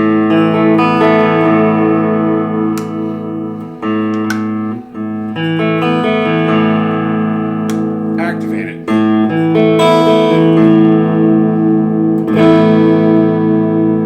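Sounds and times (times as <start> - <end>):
electric guitar chords ringing: 0.0 - 14.0.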